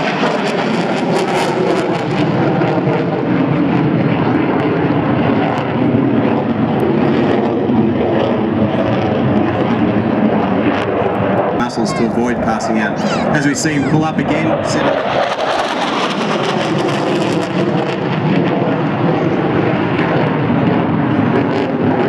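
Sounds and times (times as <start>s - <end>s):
jet engine roar with crackle: 0.0s - 12.9s, 14.0s - 22.0s.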